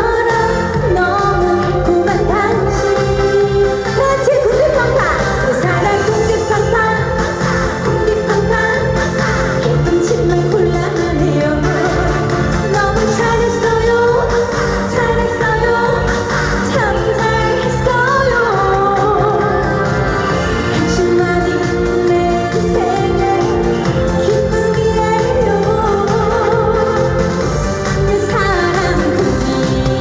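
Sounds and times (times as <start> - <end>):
backing music with steady beat: 0.0 - 30.0
woman singing pop melody: 0.0 - 30.0.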